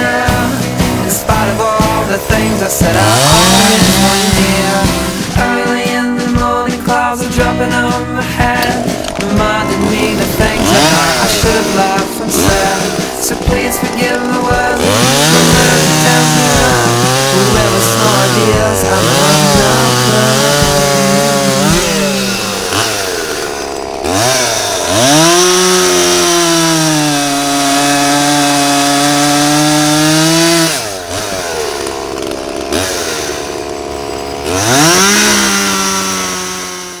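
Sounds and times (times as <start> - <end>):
chainsaw revving cutting wood: 0.0 - 37.0.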